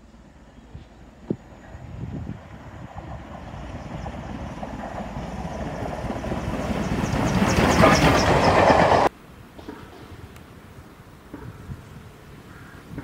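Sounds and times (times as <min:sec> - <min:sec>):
steam locomotive passing: 0:00.0 - 0:13.0.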